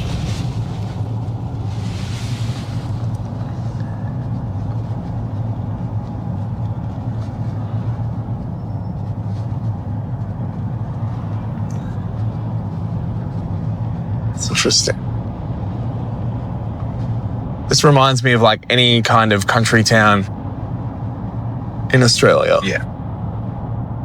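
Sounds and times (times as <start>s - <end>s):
car engine and tyres drone: 0.0s - 24.0s.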